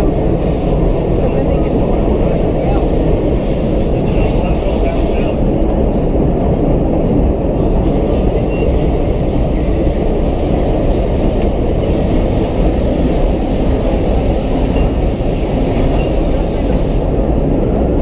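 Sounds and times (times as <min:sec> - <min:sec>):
subway car wheels rumbling: 0:00.0 - 0:18.0.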